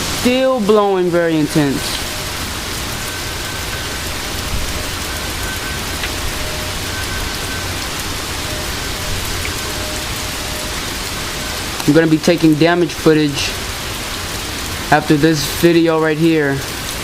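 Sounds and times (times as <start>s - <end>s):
wind gusts rumbling: 0.0s - 15.6s
heavy rain hissing: 0.0s - 17.0s.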